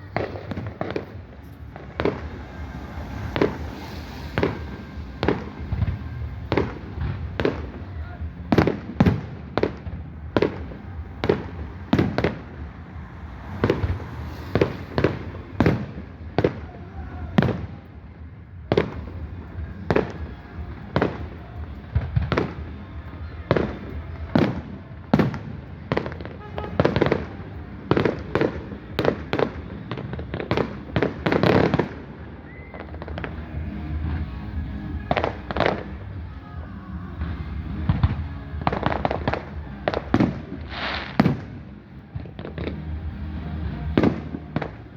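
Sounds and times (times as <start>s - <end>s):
firework bangs: 0.0s - 44.9s.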